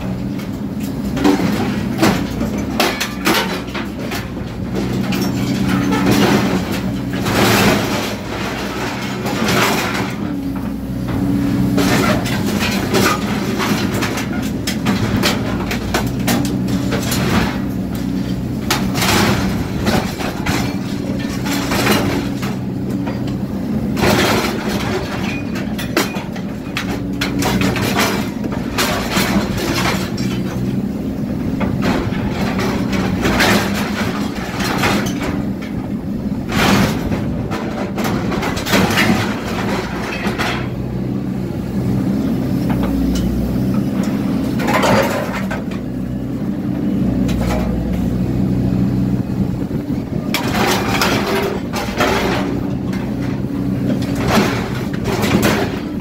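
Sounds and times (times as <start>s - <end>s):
metal cracking and crunching: 0.0s - 46.4s, 49.0s - 56.0s
excavator diesel engine running: 0.0s - 56.0s.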